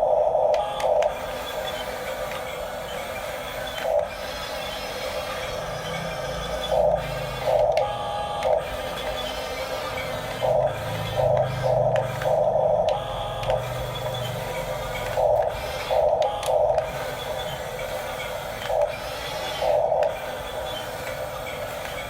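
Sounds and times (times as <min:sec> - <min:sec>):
toy bulldozer motors whirring: 0:00.0 - 0:22.0.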